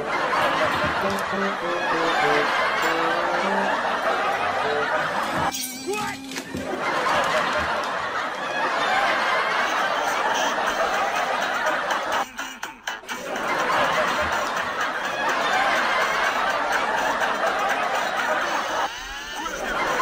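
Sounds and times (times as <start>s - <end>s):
people laughing: 0.0s - 5.5s, 6.4s - 20.0s.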